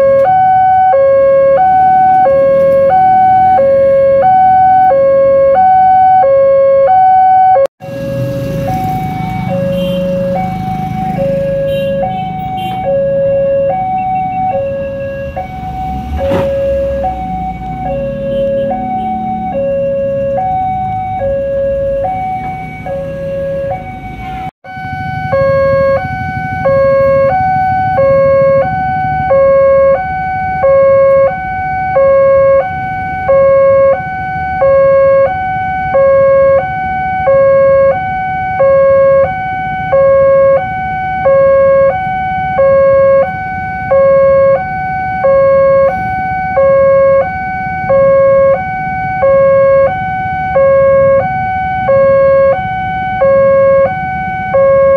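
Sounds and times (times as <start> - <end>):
traffic rumble: 0.0 - 6.6, 7.8 - 54.9.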